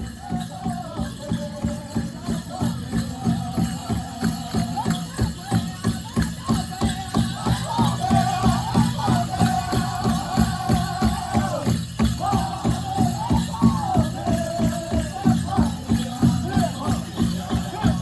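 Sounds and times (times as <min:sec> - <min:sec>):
group singing in unison: 0:00.0 - 0:18.0
large drum beating fast: 0:01.4 - 0:18.0.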